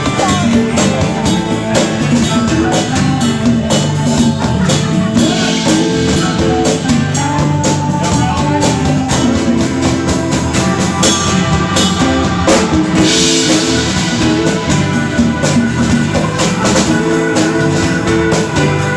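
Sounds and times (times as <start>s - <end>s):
pop-rock song: 0.0s - 18.9s.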